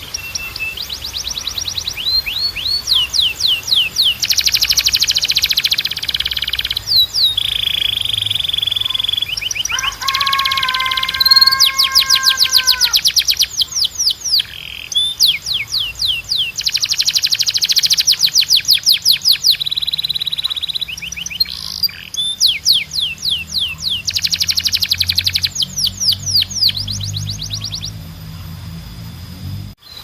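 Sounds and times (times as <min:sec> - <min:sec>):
canary singing trills: 0:00.0 - 0:28.8.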